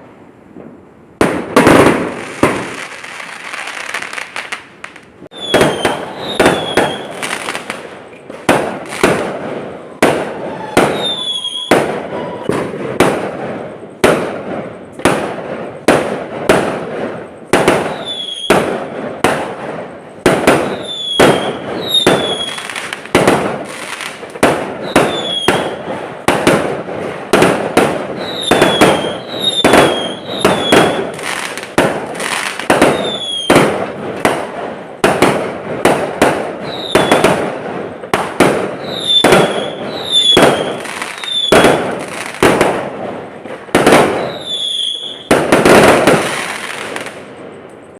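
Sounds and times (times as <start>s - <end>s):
falling fireworks whistle: 0.0s - 47.5s
fireworks bangs: 0.0s - 47.9s.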